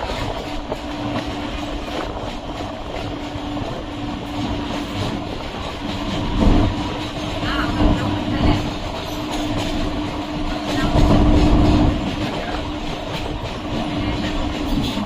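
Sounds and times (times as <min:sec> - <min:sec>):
electric train hum: 0:00.0 - 0:15.0
wheels on rail noise: 0:00.0 - 0:15.0.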